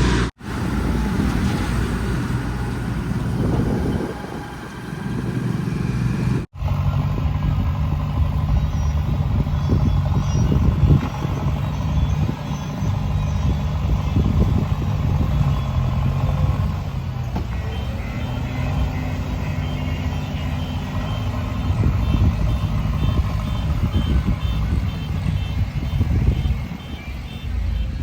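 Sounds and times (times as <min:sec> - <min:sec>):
heavy machinery diesel engines: 0:00.0 - 0:28.0.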